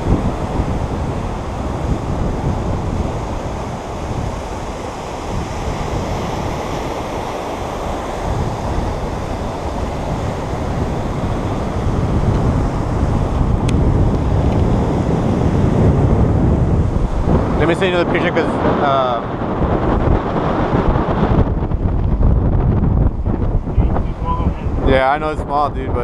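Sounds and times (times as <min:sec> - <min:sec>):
surf breaking and washing: 0:00.0 - 0:26.0
wind buffeting microphone: 0:00.0 - 0:26.0.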